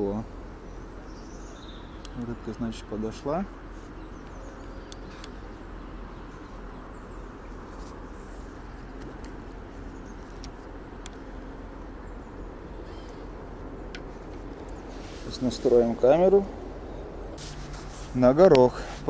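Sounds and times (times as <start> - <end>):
low outdoor background noise: 0.0 - 19.0.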